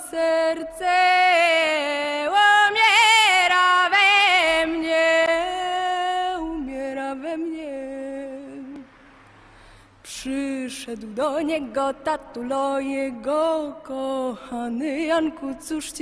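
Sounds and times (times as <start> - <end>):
woman singing a slow folk song: 0.0 - 8.8, 10.0 - 16.0.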